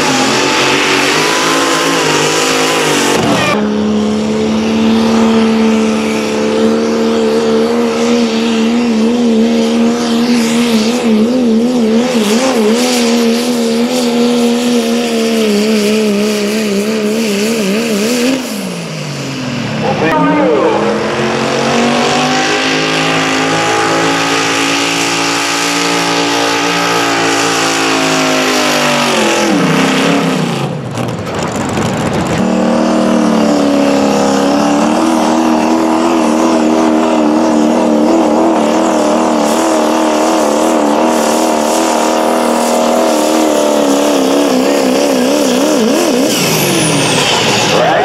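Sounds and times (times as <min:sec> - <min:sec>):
engine at high revs under load: 0:00.0 - 0:30.8, 0:32.3 - 0:47.8.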